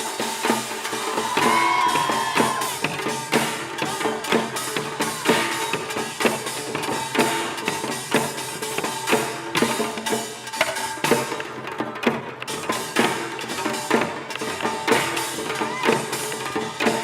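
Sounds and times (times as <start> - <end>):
drums and gongs playing: 0.0 - 17.0.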